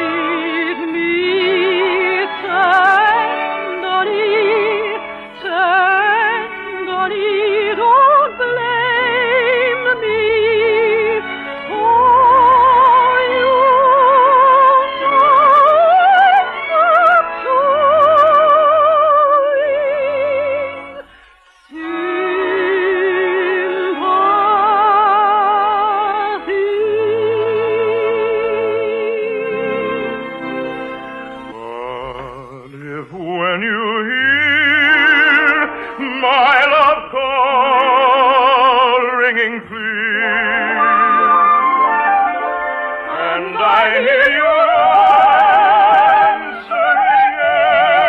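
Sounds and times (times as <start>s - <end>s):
orchestra: 0.0s - 48.0s
soprano singing operatically: 0.0s - 48.0s.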